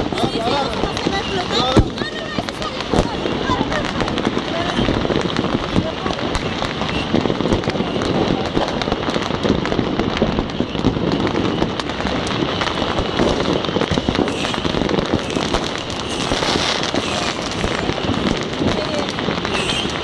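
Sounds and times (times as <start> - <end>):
fireworks and firecrackers crackling: 0.0 - 20.0.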